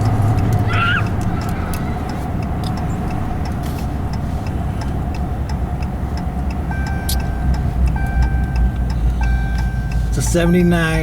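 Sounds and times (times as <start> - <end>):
faint regular ticking: 0.0 - 11.0
road and engine rumble: 0.0 - 11.0.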